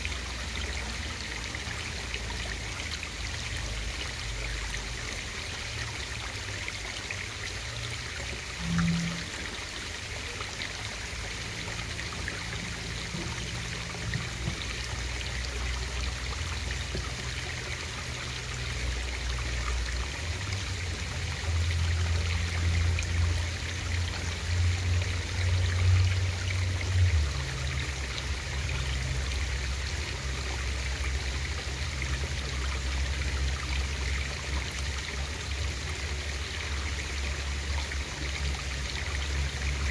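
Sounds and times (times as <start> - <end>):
low uneven hum: 0.0 - 39.9
water trickling underwater: 0.0 - 39.9.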